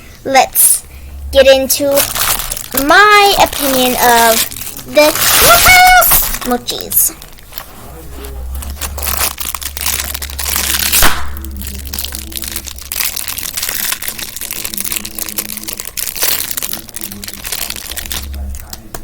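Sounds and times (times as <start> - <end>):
plastic packaging crinkling: 1.4 - 19.0.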